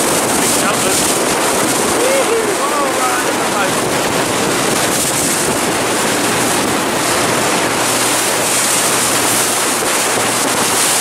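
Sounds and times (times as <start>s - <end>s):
water washing along hull: 0.0s - 11.0s
wind buffeting microphone: 0.0s - 11.0s.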